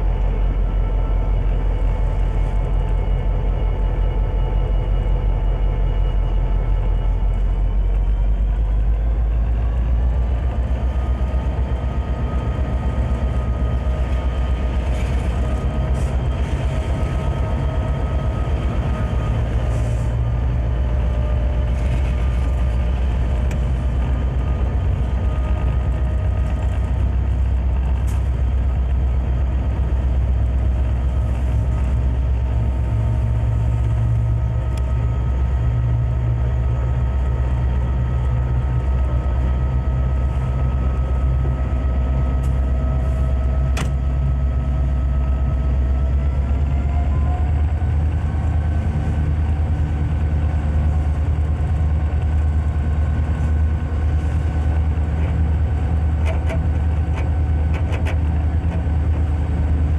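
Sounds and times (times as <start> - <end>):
diesel locomotive engine drone: 0.0 - 59.9
steady whine: 0.0 - 59.9.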